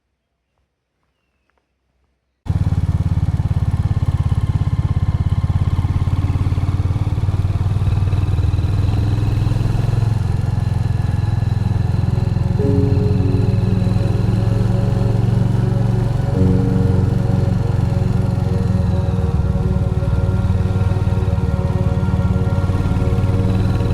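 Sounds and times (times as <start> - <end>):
motorcycle engine running: 2.5 - 23.9.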